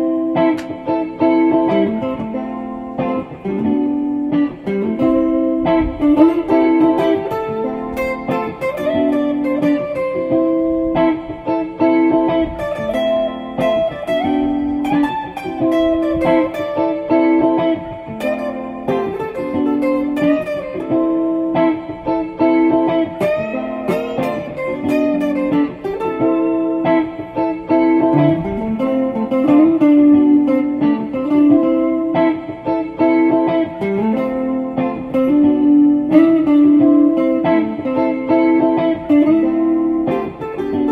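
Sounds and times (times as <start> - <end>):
plucked guitar instrumental: 0.0 - 40.9.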